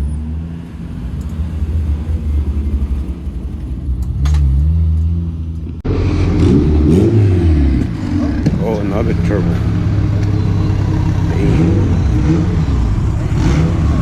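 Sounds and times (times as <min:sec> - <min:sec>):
car engine rumbling: 0:00.0 - 0:14.0
engine revving: 0:00.0 - 0:14.0.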